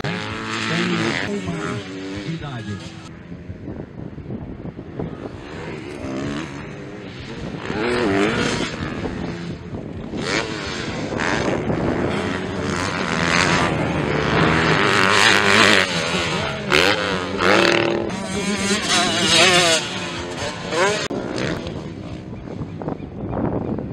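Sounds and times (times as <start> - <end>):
dirt bike engines revving: 0.0 - 23.9.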